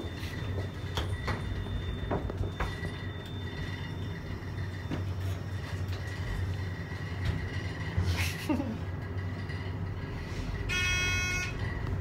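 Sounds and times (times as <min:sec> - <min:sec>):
elevator hum: 0:00.0 - 0:12.0.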